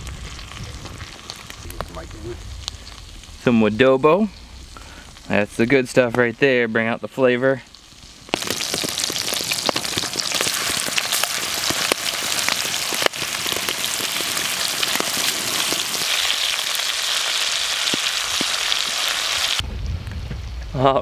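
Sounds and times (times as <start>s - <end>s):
meat sizzling in a skillet: 0.0s - 6.6s, 7.7s - 19.6s.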